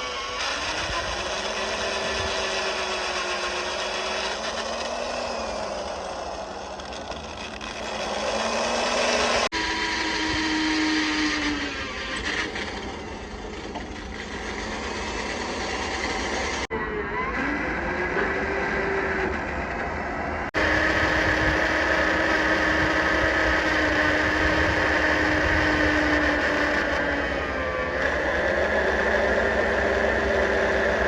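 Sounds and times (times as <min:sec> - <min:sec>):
metalwork noise: 0:00.0 - 0:27.2
power tool motor whining: 0:00.0 - 0:31.0.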